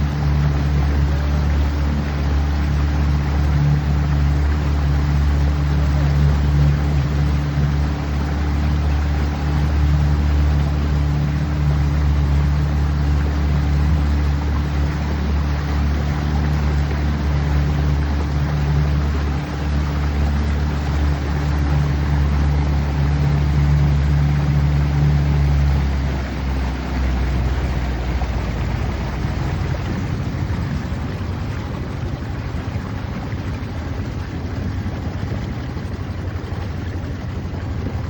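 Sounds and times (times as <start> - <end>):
boat motor humming: 0.0 - 38.0
wind and water rushing: 0.0 - 38.0.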